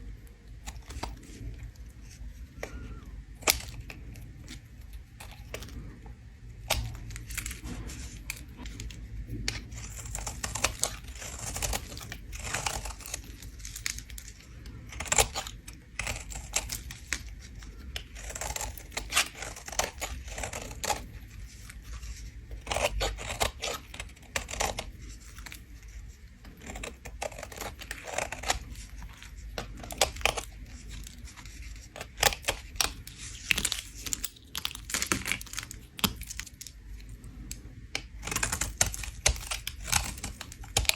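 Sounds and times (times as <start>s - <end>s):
bar of soap being scraped: 0.0s - 40.9s.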